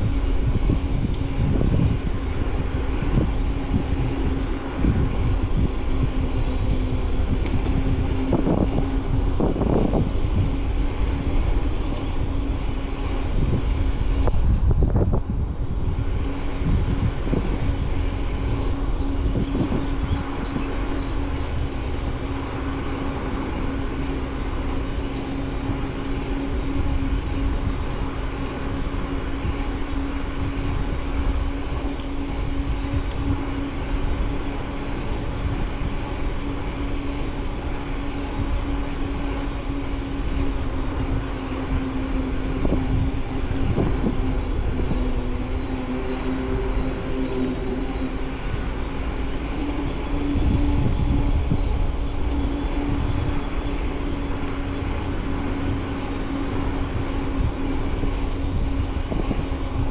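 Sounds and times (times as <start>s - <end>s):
bicycle tyres rumbling: 0.0s - 59.9s
steady even-pitched hum: 0.0s - 59.9s
wind on microphone: 0.0s - 59.9s.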